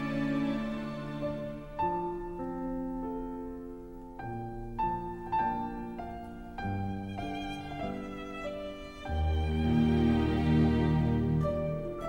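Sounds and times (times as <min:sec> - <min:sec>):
slow piano notes: 0:00.0 - 0:12.0.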